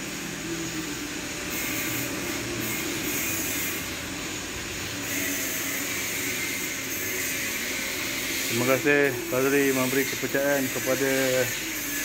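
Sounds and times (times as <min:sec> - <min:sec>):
workshop machinery rushing noise: 0:00.0 - 0:12.0.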